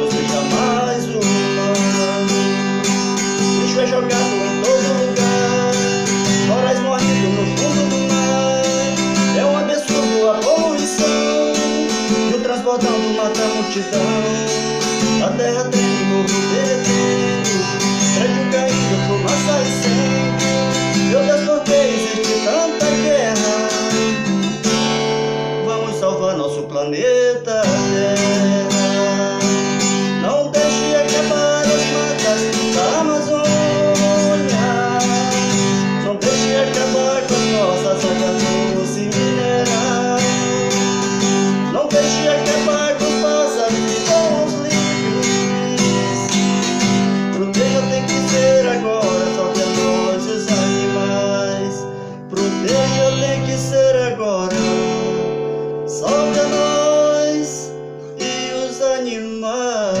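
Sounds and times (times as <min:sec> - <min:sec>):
bending guitar lead melody: 0:00.0 - 1:00.0
strummed acoustic guitar chords: 0:00.0 - 1:00.0.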